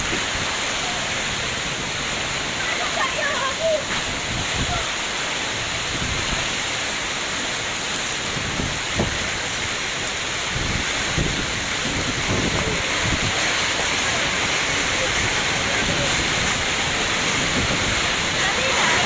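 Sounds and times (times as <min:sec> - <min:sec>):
strong wind rushing: 0:00.0 - 0:06.6, 0:08.2 - 0:09.7, 0:10.4 - 0:19.0
wind buffeting microphone: 0:00.0 - 0:06.9, 0:07.9 - 0:19.0.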